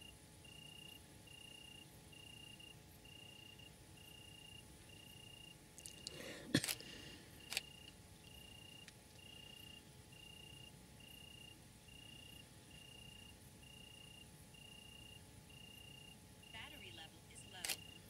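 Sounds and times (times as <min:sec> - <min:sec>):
cricket chirping: 0:00.0 - 0:06.7, 0:07.3 - 0:16.6, 0:17.4 - 0:18.0.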